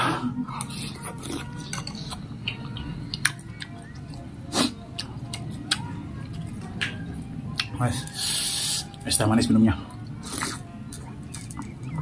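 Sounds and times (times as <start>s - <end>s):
wet chewing and mouth smacks: 0.6s - 9.0s, 9.9s - 12.0s.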